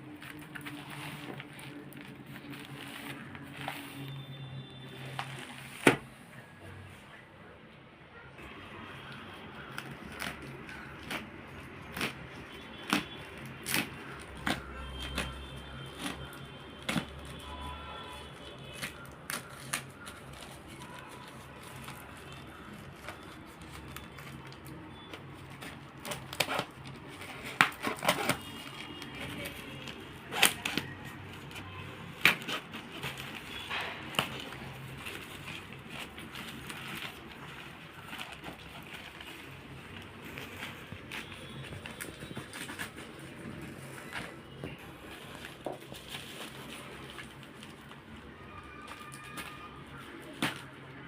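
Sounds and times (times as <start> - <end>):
packaging crinkling and tearing: 0.0 - 6.1, 8.4 - 51.0.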